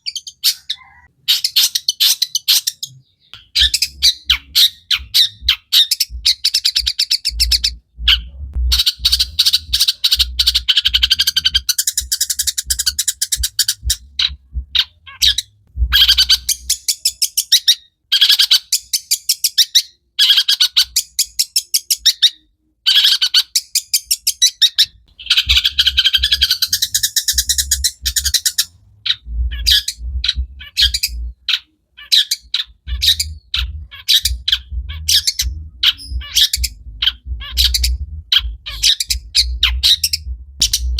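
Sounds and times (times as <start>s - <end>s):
bird song scratchy chatter: 0.0s - 40.9s.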